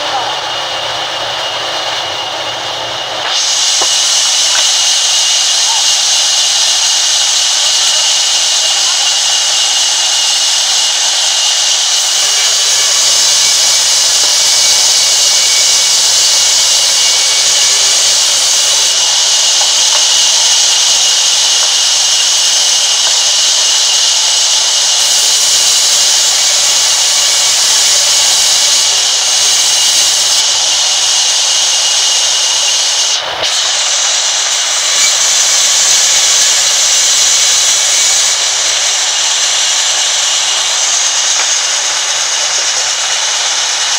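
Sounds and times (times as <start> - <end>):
band saw cutting wood: 0.0 - 43.9.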